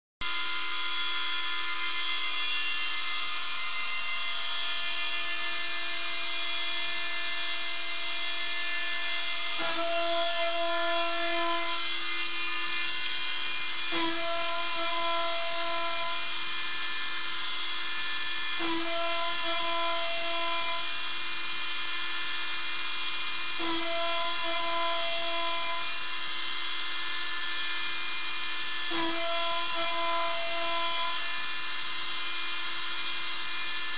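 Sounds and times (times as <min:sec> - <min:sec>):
router spindle high whine: 0:00.2 - 0:33.9.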